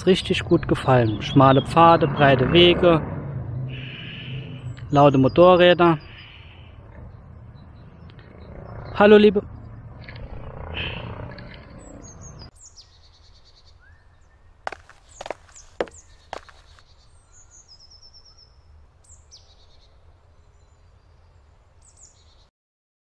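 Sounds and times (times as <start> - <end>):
small birds chirping: 3.9 - 22.5.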